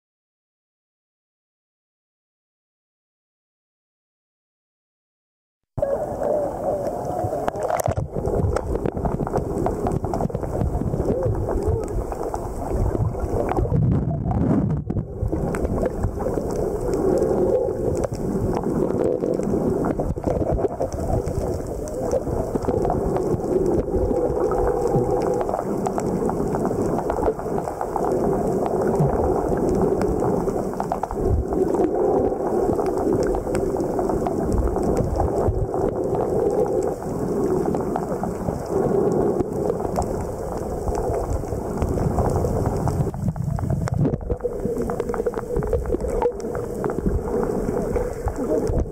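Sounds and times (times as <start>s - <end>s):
muffled underwater water rumble: 5.8s - 48.9s
faint clicks: 6.2s - 13.7s, 14.9s - 48.9s.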